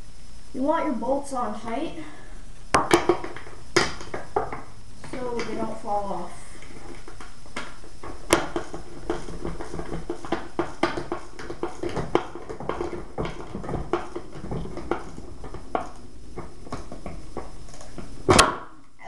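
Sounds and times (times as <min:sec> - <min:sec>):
steady low background hum: 0:00.0 - 0:19.0.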